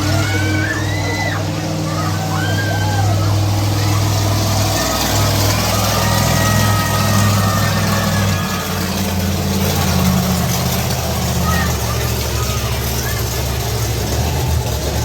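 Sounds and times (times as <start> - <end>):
truck engine deep drone: 0.0 - 15.0.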